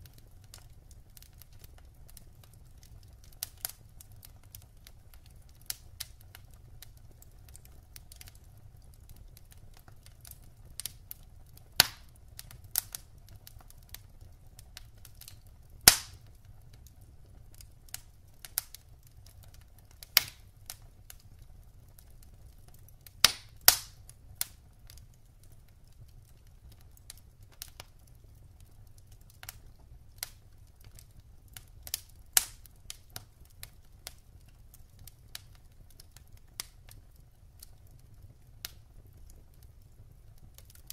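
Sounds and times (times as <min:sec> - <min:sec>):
fire crackling and popping: 0:00.0 - 0:40.9
low hum of flames: 0:00.0 - 0:40.9.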